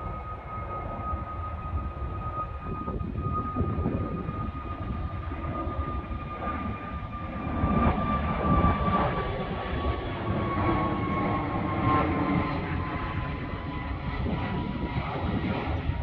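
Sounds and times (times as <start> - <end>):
jet engines rumbling and whining: 0.0 - 16.0.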